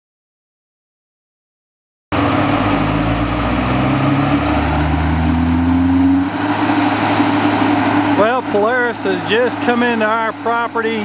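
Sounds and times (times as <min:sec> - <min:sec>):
truck droning with low tones: 0:02.1 - 0:11.0.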